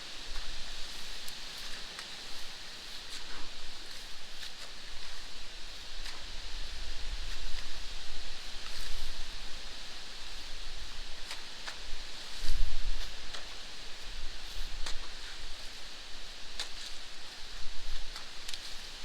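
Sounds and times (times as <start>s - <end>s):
water running through canal: 0.1s - 19.0s.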